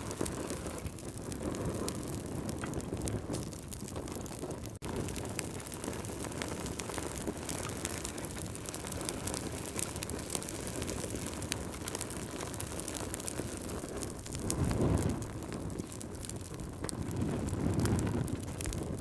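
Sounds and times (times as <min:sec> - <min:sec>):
crackling wood fire: 0:00.0 - 0:19.0.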